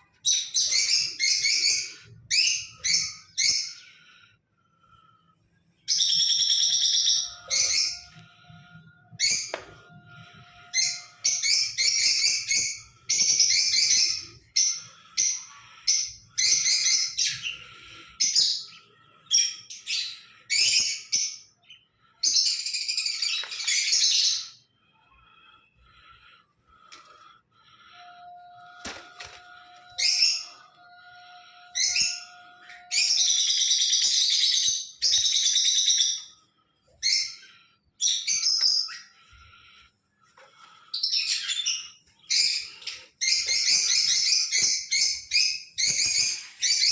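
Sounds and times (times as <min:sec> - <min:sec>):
parrots chattering and chirping: 0:00.0 - 0:04.1, 0:05.8 - 0:46.9.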